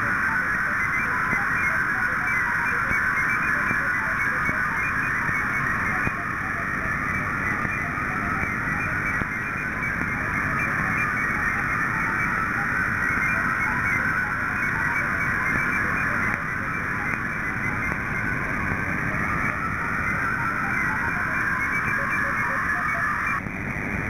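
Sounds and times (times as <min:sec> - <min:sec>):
digital radio signal tones: 0:00.0 - 0:24.0
radio static: 0:00.0 - 0:24.0.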